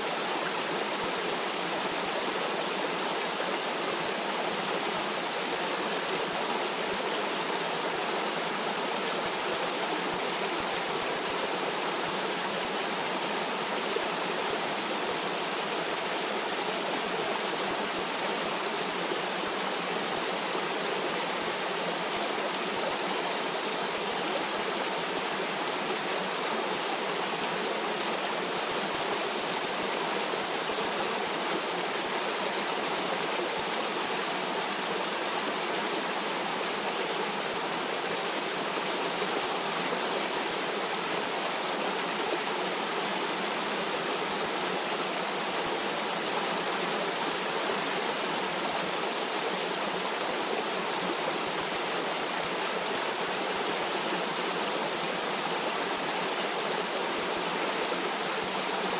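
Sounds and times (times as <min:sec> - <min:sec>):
stream water rushing over rocks: 0:00.0 - 0:58.9.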